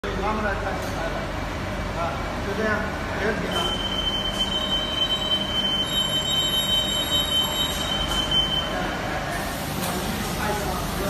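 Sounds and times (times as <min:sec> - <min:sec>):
steady machinery noise: 0:00.0 - 0:11.0.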